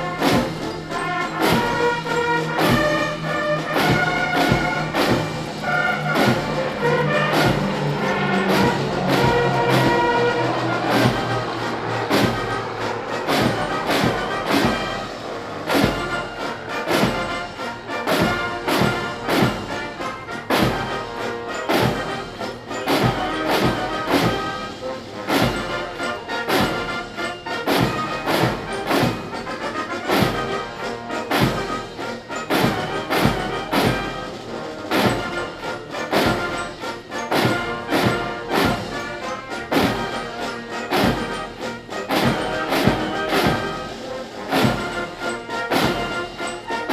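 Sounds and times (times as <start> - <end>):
military band playing a march: 0.0 - 46.9.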